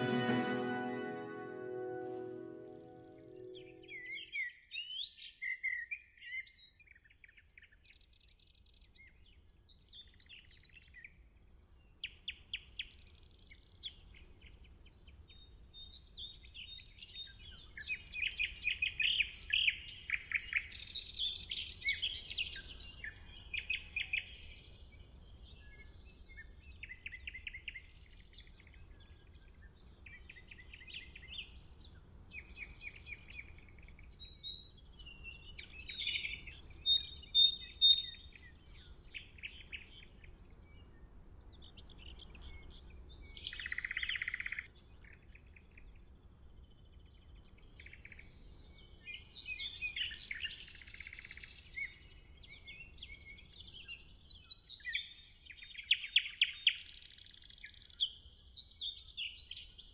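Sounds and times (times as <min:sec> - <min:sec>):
birds chirping and trilling: 0:00.0 - 0:11.2, 0:11.8 - 0:59.9.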